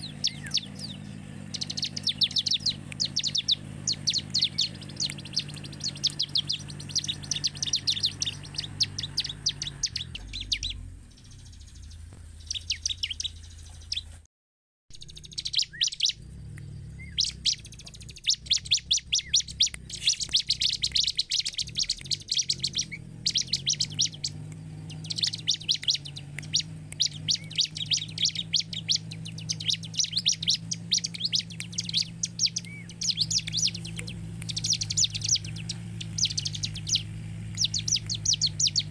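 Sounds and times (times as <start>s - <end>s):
bird singing sharp high notes: 0.0s - 14.1s, 14.9s - 38.9s
steady low hum: 0.0s - 14.2s, 14.9s - 38.9s.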